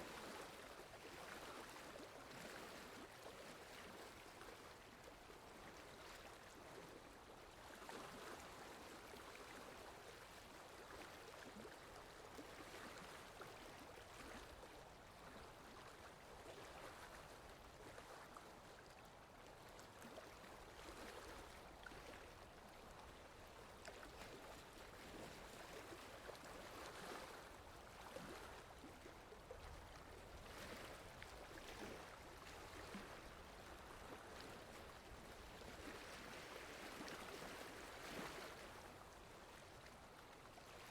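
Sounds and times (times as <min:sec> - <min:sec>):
water lapping gently: 0:00.0 - 0:40.9.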